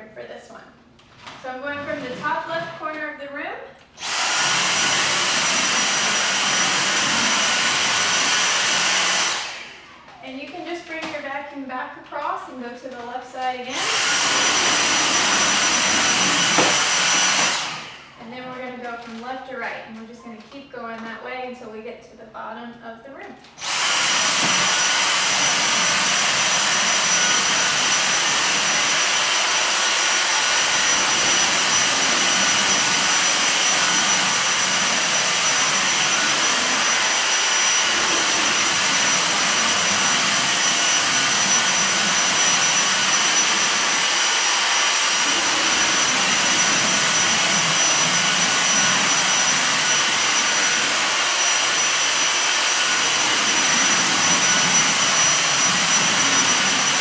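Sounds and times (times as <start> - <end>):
cordless vacuum cleaner running: 1.0 - 3.1, 3.8 - 11.3, 12.9 - 19.3, 23.4 - 57.0.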